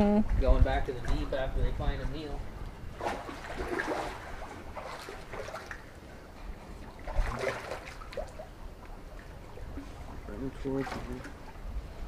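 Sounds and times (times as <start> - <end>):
water splashing against dock: 0.3 - 12.0.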